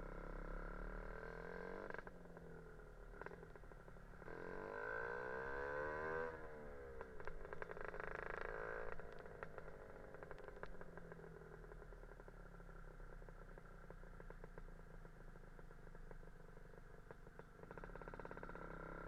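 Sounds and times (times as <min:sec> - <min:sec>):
two-stroke scooter engine revving: 0:00.0 - 0:19.0.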